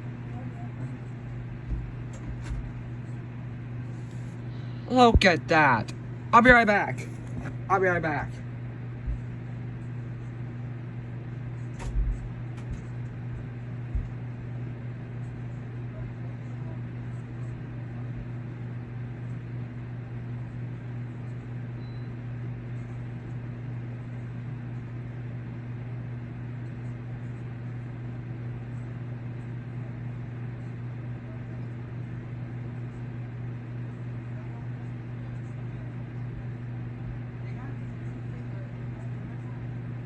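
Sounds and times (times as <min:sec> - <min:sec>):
low electrical hum with hiss: 0:00.0 - 0:40.0.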